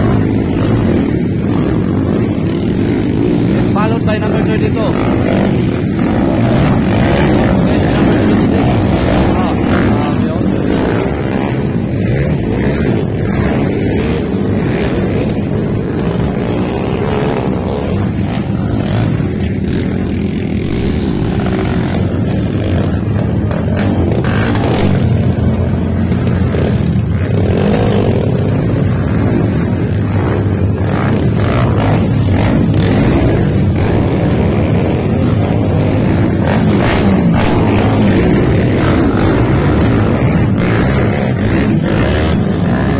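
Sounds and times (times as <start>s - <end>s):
motorcycles revving: 0.0s - 42.9s.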